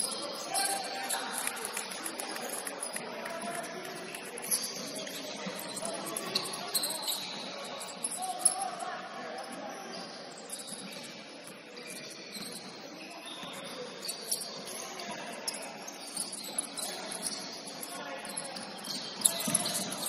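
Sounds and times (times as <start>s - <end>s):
shoes squeaking on hardwood court: 0.0s - 8.8s, 9.5s - 20.0s.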